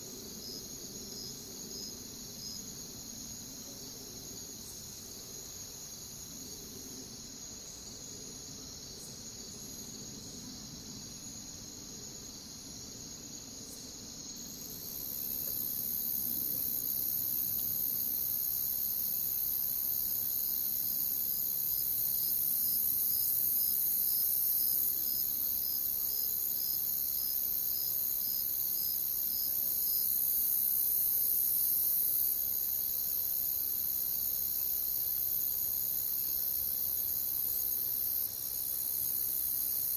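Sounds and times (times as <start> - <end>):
crickets chirping: 0.0 - 39.9
high-pitched insect trill: 0.1 - 39.9.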